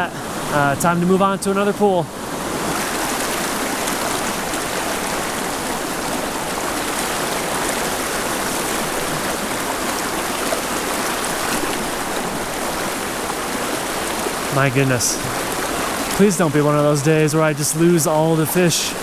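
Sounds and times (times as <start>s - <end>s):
creek rushing over rapids: 0.0s - 19.0s.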